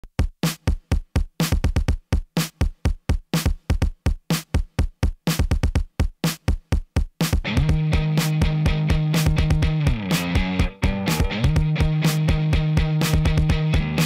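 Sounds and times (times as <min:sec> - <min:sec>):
drum beat: 0:00.0 - 0:14.0.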